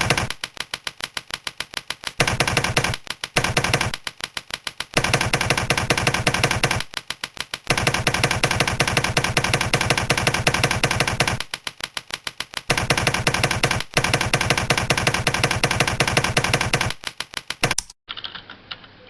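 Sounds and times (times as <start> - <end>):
fast typing on keyboard: 0.0 - 18.4.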